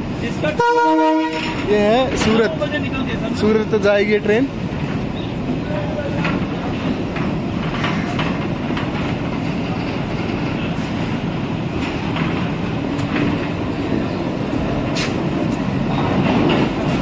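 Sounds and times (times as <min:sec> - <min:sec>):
wheels clacking over rail joints: 0:00.0 - 0:17.0
wheels rumbling on rail: 0:00.0 - 0:17.0.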